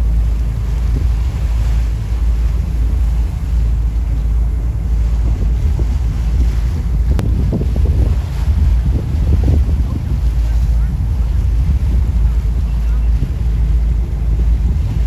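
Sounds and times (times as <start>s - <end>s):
water wash: 0.0s - 15.0s
wind buffeting microphone: 0.0s - 15.0s.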